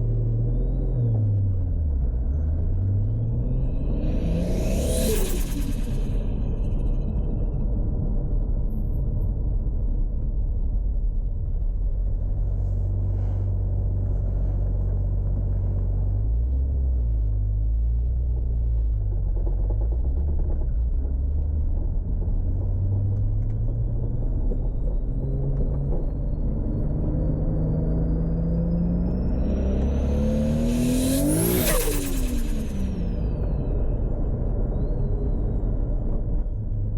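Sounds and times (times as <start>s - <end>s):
car engine low rumble: 0.0s - 36.9s.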